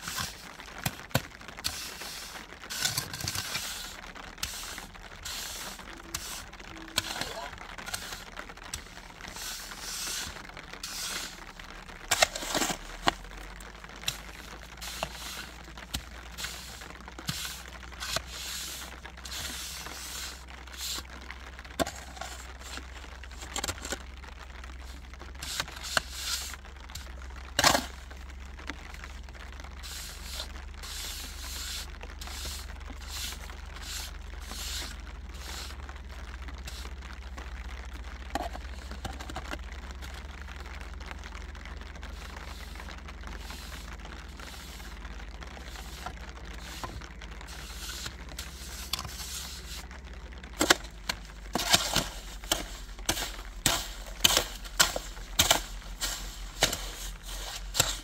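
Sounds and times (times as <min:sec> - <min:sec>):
rustling and scraping: 0:00.0 - 0:58.0.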